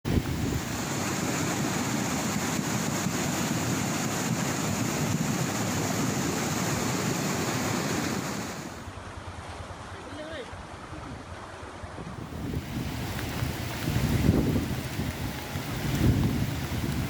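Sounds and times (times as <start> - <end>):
floodwater rushing: 0.1 - 17.0.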